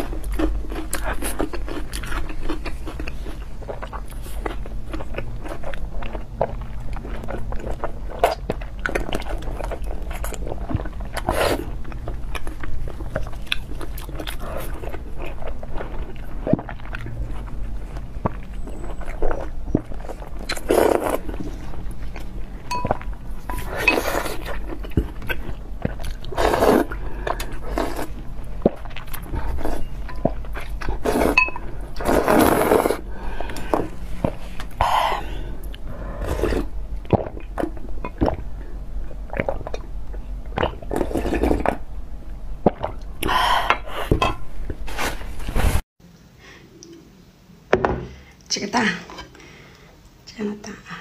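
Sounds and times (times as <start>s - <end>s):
wet chewing and smacking: 0.0s - 43.9s.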